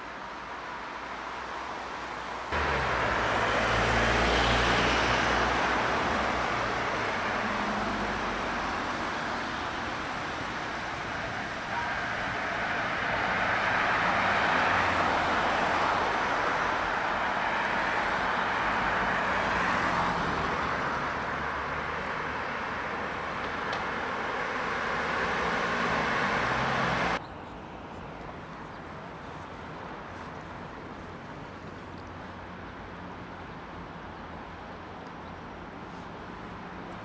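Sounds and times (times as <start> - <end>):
steady traffic noise: 0.0 - 37.0
vehicles passing close by: 0.0 - 37.0.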